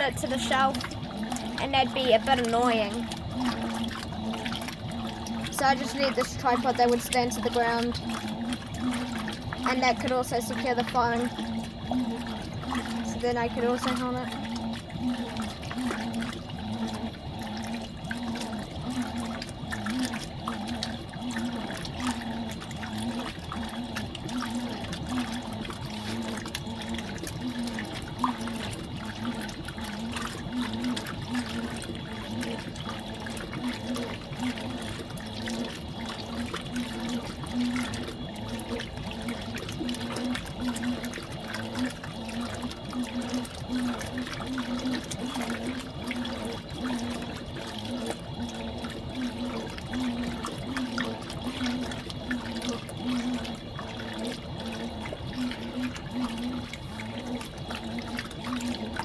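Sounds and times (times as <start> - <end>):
washing machine humming: 0.0 - 59.0
water splashing in washing machine: 0.0 - 59.0.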